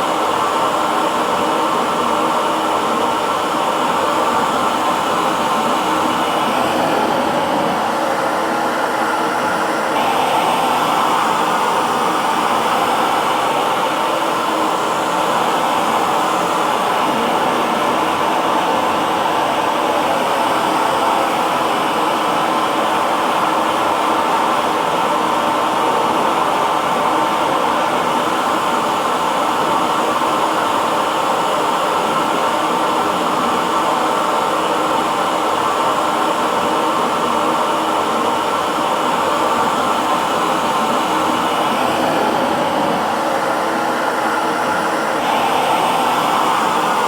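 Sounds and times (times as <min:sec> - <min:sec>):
hair dryer blowing: 0:00.0 - 0:47.0.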